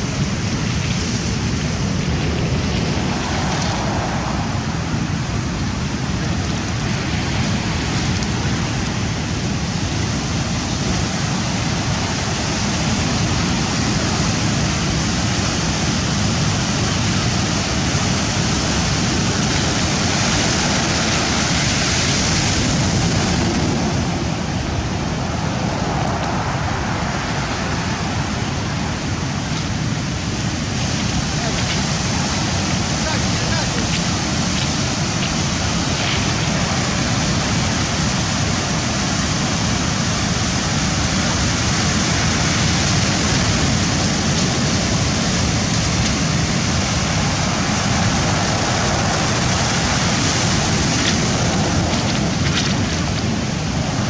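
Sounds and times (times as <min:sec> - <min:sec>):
rough sea surf: 0:00.0 - 0:54.0
wind: 0:00.0 - 0:54.0.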